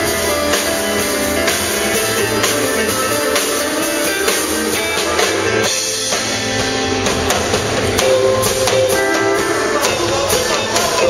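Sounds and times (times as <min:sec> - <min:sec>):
drum kit: 0:00.0 - 0:11.0
electric guitar: 0:00.0 - 0:11.0
live country band playing: 0:00.0 - 0:11.0.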